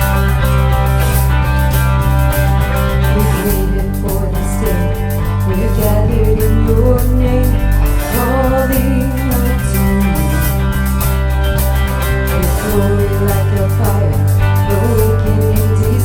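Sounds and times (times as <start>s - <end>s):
bass guitar: 0.0s - 16.0s
drums with cymbal strokes: 0.0s - 16.0s
electric guitar: 0.0s - 16.0s.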